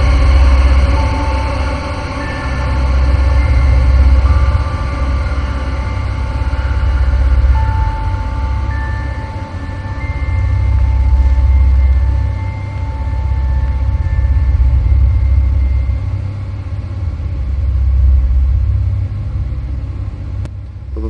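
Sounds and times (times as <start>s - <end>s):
faint steady high tones: 0.0s - 21.0s.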